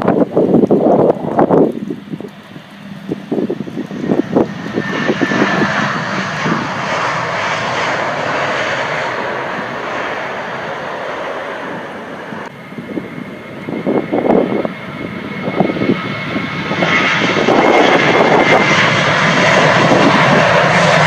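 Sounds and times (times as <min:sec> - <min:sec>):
jet airliner passing: 0:00.0 - 0:21.0
wind buffeting microphone: 0:00.0 - 0:21.0.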